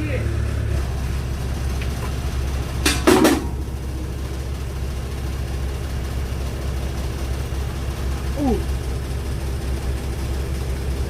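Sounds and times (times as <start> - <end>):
excavator engine idling: 0.0 - 11.0.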